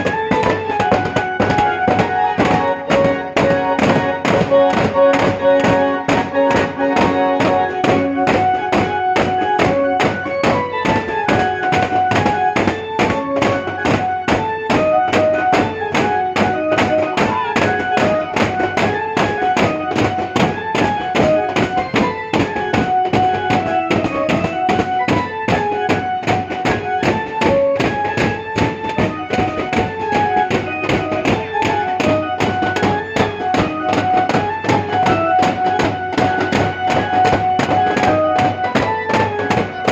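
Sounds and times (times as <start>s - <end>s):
fast drum beats: 0.0s - 39.9s
harmonium melody: 0.0s - 39.9s.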